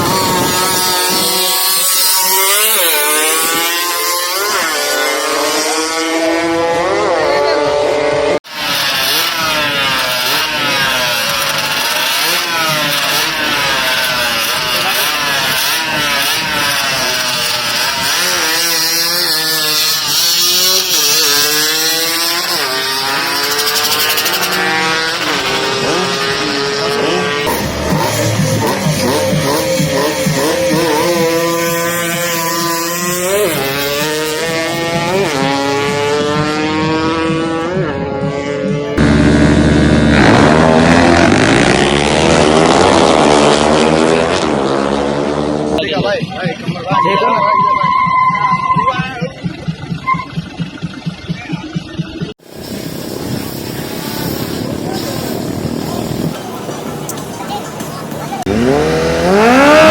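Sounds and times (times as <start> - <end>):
drag racing engine accelerating: 0.0 - 59.9.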